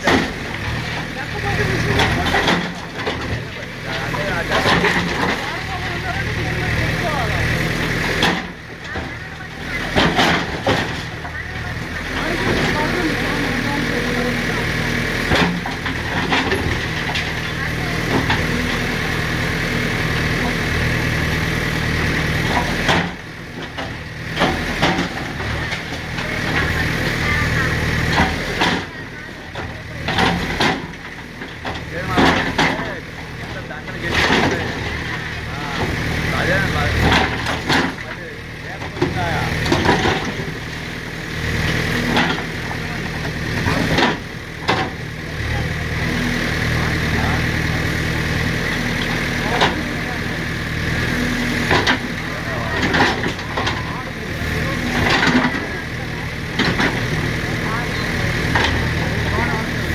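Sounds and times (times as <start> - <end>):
diesel engine running at low revs: 0.0 - 59.9.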